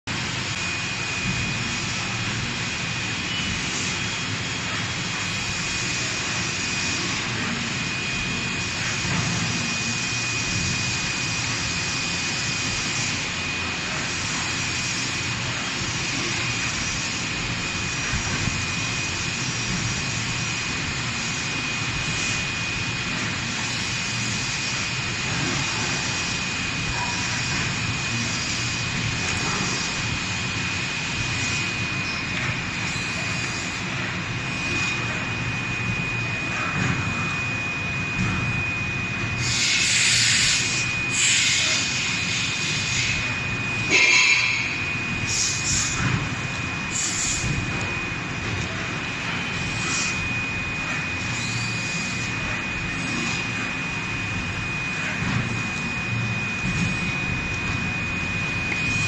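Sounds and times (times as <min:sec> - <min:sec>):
injection moulding machine hum: 0:00.1 - 0:59.0.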